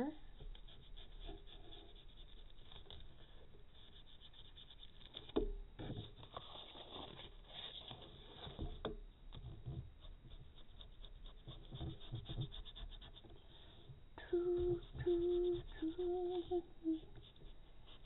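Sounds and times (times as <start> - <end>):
paint rubbing and scraping on paper: 0.0 - 18.0.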